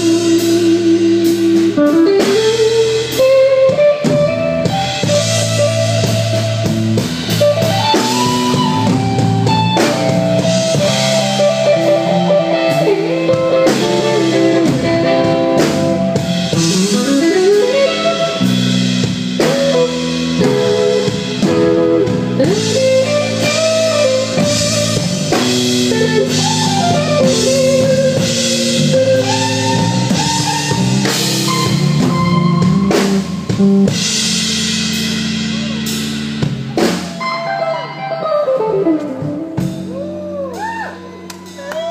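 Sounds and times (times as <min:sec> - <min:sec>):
electric guitar solo: 0:00.0 - 0:41.9
live blues band: 0:00.0 - 0:41.9.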